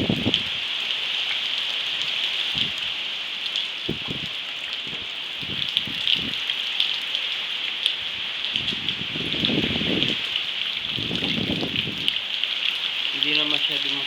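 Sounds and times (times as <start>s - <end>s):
heavy rain hissing: 0.0s - 14.0s
raindrops ticking on surfaces: 0.0s - 14.0s.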